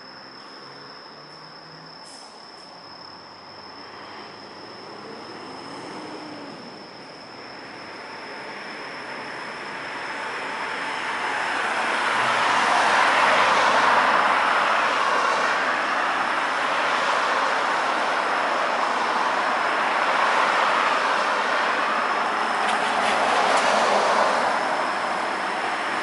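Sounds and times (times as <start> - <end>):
tyres hissing on wet road: 3.5 - 26.0.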